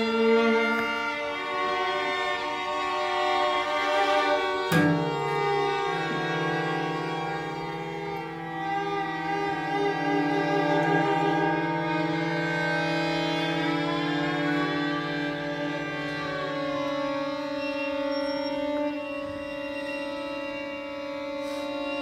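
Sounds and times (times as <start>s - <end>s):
string quartet playing: 0.0s - 22.0s.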